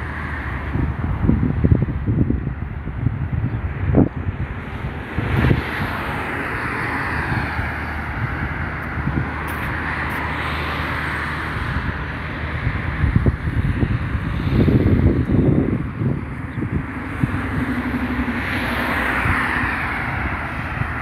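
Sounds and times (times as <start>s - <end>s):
passing cars: 0.0s - 21.0s
wind rumbling on microphone: 0.0s - 21.0s.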